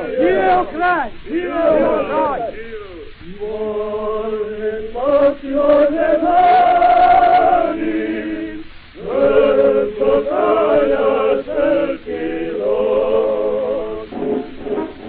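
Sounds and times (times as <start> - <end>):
men chanting in unison: 0.0 - 14.5.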